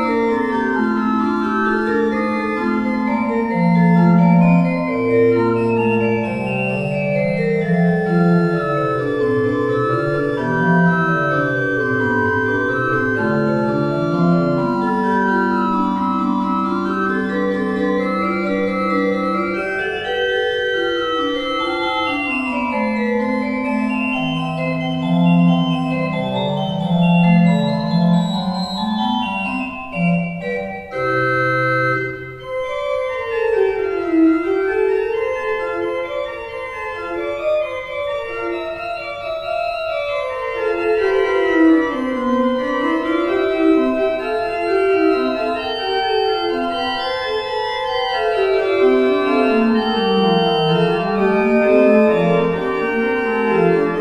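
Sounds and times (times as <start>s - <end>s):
church organ playing: 0.0s - 54.0s.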